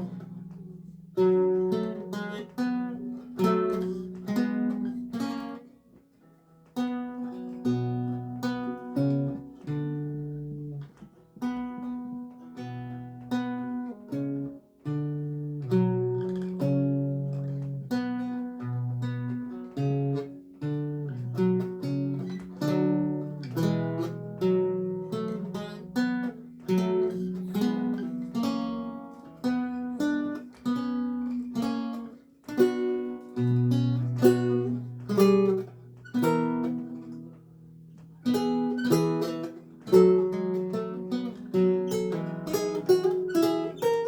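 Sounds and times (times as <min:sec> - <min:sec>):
solo lute music: 0:00.0 - 0:44.0.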